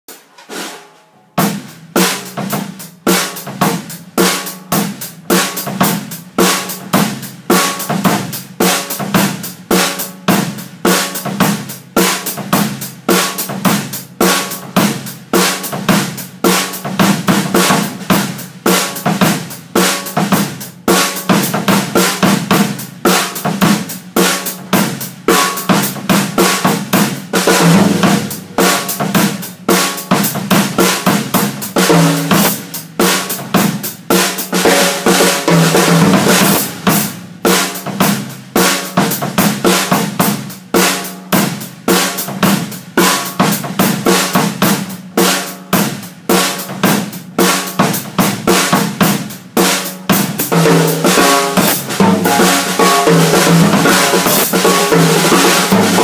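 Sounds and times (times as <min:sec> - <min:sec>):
drum kit beat played with sticks: 0:00.1 - 0:56.0.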